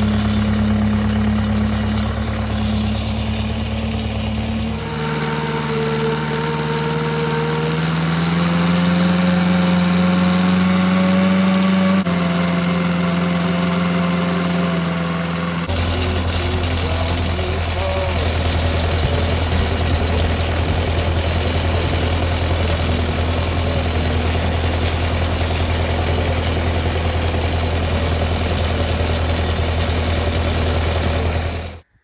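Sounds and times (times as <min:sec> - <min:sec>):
motor engine running: 0:00.0 - 0:31.9.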